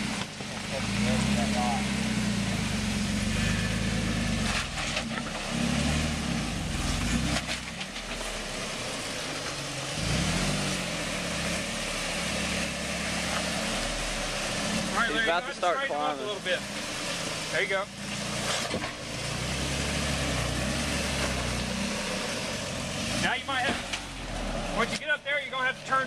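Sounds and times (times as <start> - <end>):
pickup engine running at low revs: 0.0 - 26.0.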